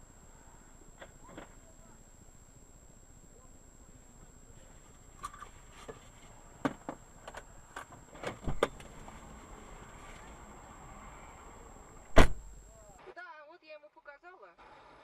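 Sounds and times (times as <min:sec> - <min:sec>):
faint high whine: 0:00.0 - 0:13.2.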